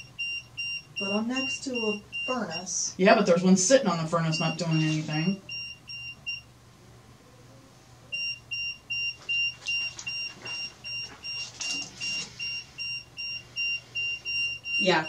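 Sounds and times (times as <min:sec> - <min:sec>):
electronic meter beeping: 0:00.0 - 0:03.0, 0:04.2 - 0:06.5, 0:08.1 - 0:15.0.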